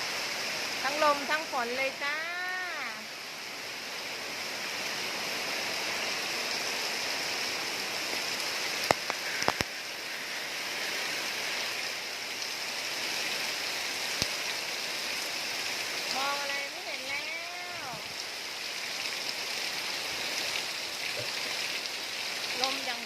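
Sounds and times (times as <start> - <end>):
heavy rain pouring: 0.0 - 23.0
wind: 0.0 - 23.0.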